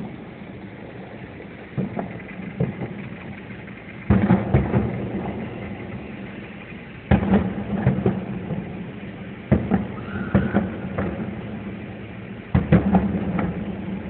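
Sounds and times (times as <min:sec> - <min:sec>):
car engine idling: 0:00.0 - 0:14.0
fireworks booming: 0:00.0 - 0:14.0
fireworks crackling: 0:00.0 - 0:14.0.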